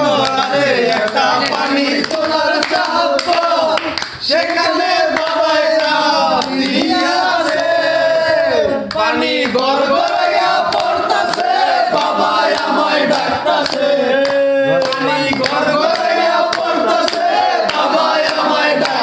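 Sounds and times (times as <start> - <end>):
group of men singing: 0.0 - 19.0
hand claps: 0.0 - 19.0.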